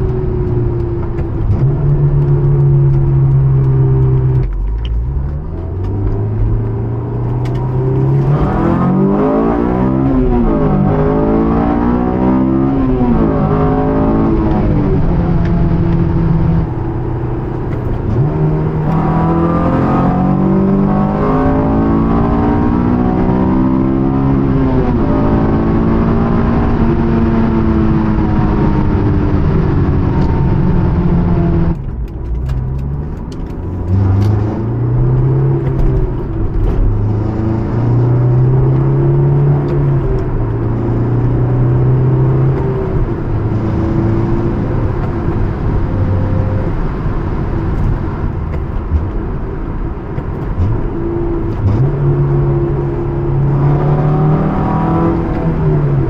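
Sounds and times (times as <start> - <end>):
car engine heard from cabin: 0.0 - 56.0
road noise: 0.0 - 56.0.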